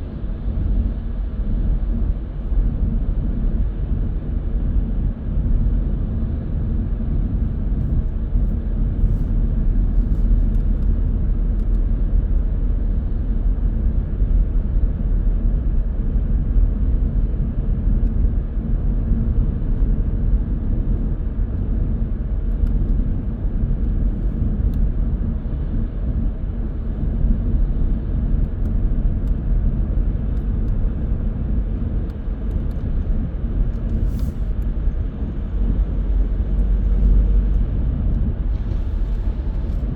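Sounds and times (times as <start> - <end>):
car driving rumble: 5.8 - 39.9.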